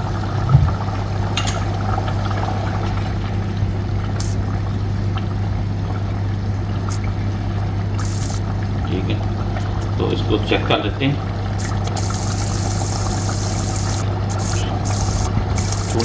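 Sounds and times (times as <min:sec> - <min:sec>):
steady low hum: 0:00.0 - 0:16.0
curry bubbling in a pot: 0:00.3 - 0:16.0.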